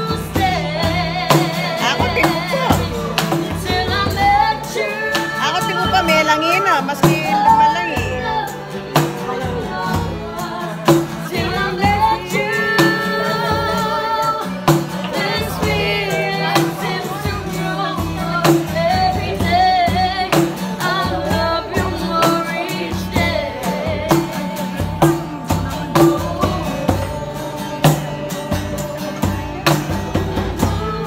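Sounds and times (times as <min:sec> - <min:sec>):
acoustic guitar: 0:00.0 - 0:31.0
conga drums: 0:00.0 - 0:31.0
woman singing with vibrato: 0:00.0 - 0:31.0.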